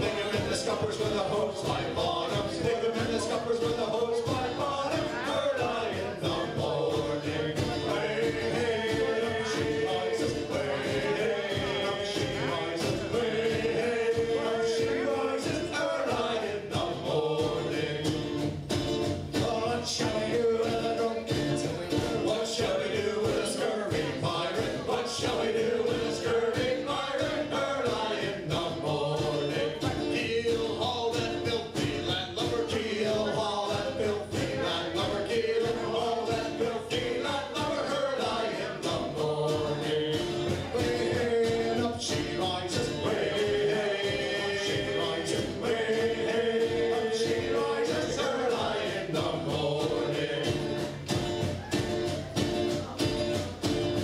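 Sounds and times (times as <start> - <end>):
mandolin: 0.0 - 54.0
steady drum beat: 0.0 - 54.0
strummed acoustic guitars: 0.0 - 54.0
voices singing: 0.0 - 54.0.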